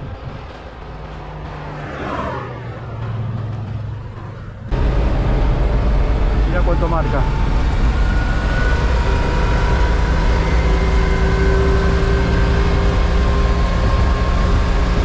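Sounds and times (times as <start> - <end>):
car engine accelerating: 0.0 - 15.0
road noise: 0.0 - 15.0.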